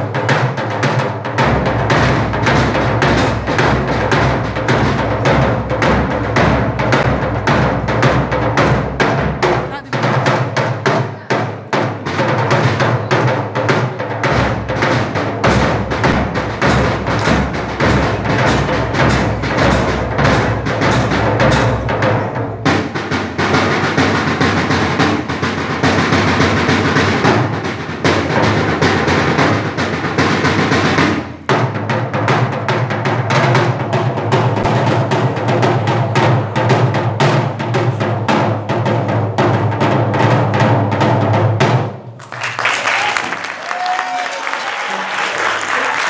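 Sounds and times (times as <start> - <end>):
drumsticks beating a hand drum: 0.0 - 42.0.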